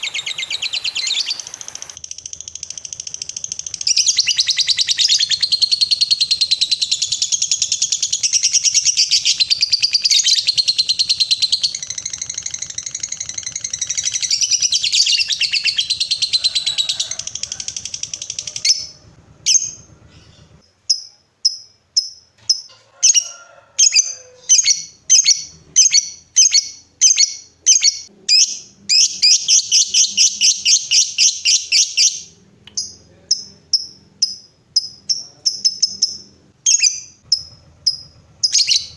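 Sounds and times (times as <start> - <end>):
lovebird chattering trill: 0.0 - 22.2, 23.8 - 38.9.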